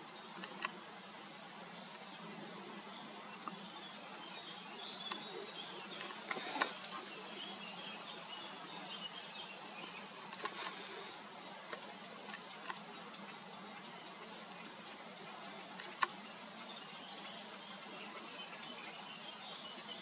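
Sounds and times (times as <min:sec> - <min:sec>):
distant bird twittering: 0:01.6 - 0:20.0.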